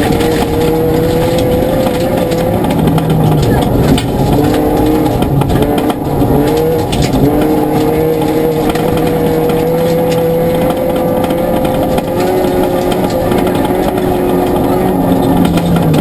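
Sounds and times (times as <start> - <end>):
rally car engine revving: 0.0 - 16.0
stones clicking: 0.0 - 16.0
tyres on gravel: 0.0 - 16.0.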